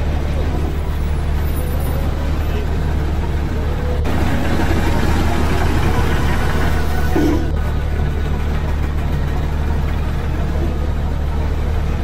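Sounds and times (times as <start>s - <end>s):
diesel truck engine under load: 0.0s - 12.0s.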